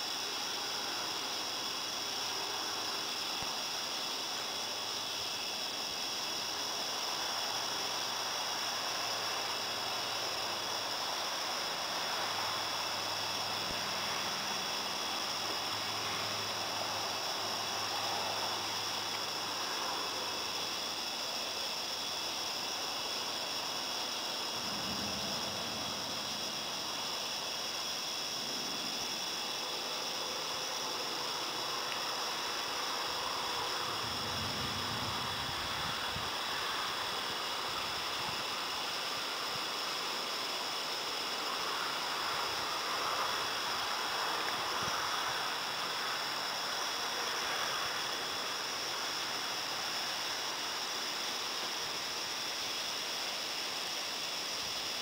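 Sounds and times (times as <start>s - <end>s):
background hiss: 0.0s - 55.0s
crickets chirping: 0.0s - 55.0s.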